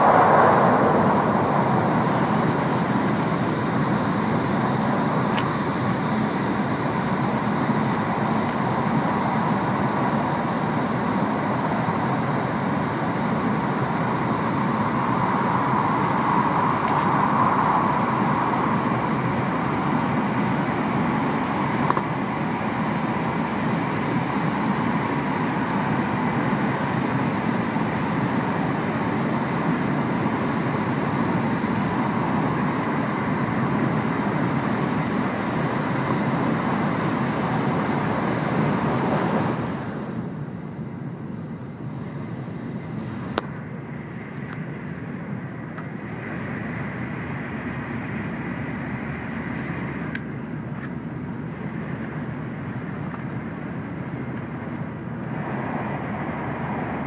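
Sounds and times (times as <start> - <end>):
train running rush and rumble: 0.0 - 57.0.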